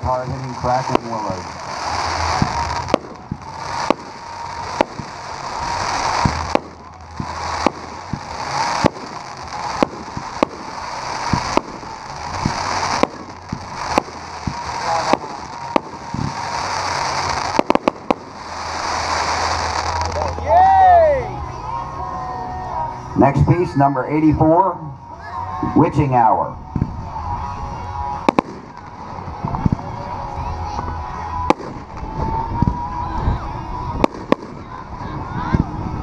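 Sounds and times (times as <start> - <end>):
firework shots: 0.0 - 20.4, 26.7 - 35.9
crackling firework bursts: 0.0 - 21.4, 23.2 - 36.0.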